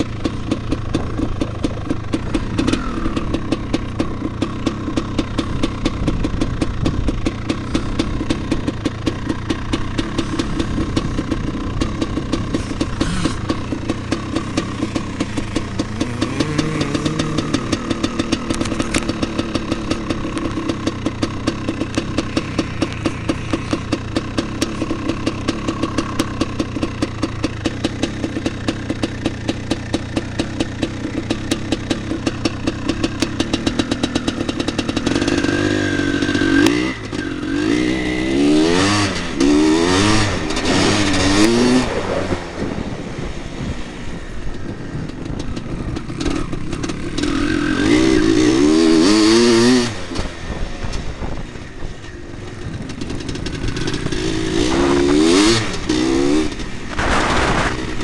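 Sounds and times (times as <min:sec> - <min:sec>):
motocross engine idling and revving: 0:00.0 - 0:58.0.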